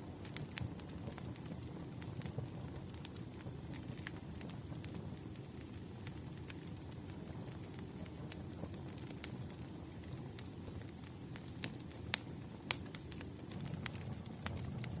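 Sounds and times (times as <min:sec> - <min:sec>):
firewood crackling: 0:00.0 - 0:15.0
low rumble of flames: 0:00.0 - 0:15.0.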